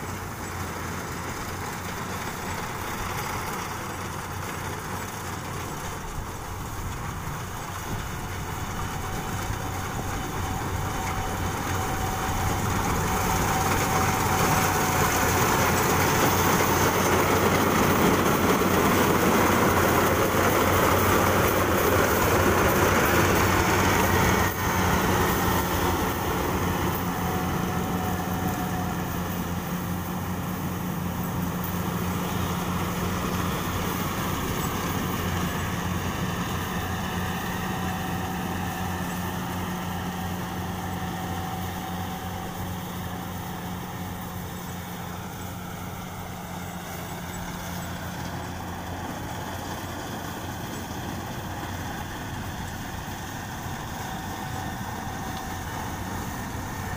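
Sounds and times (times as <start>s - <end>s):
combine harvester diesel engine: 0.0s - 56.9s.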